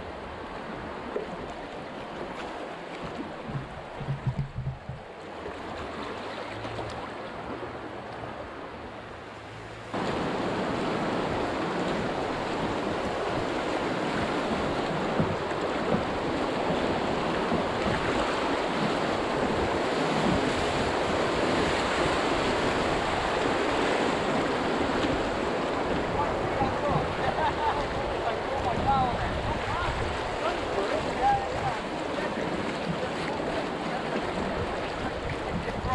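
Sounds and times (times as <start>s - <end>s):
river rapid rushing water: 0.0s - 35.9s.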